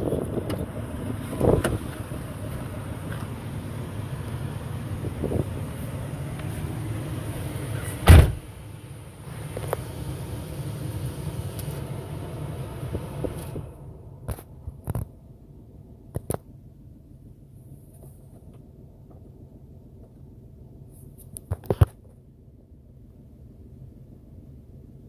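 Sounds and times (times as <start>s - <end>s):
pickup truck engine rumble: 0.0s - 25.0s.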